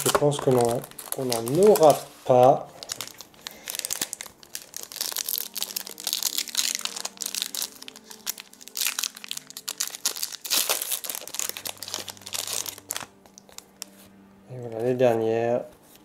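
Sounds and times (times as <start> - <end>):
foil wrapper crinkling: 0.0 - 13.9.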